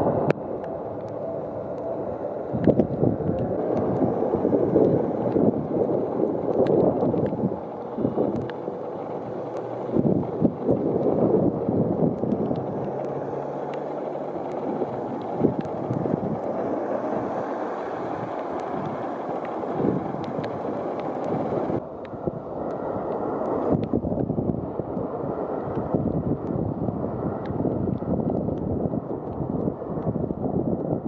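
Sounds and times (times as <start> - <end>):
rain: 0.0 - 31.0
wind buffeting microphone: 0.0 - 31.0.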